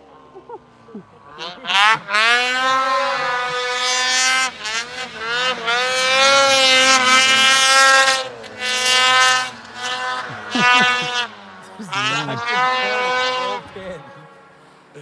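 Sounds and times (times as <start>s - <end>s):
snowmobile engine revving hard: 0.0s - 15.0s.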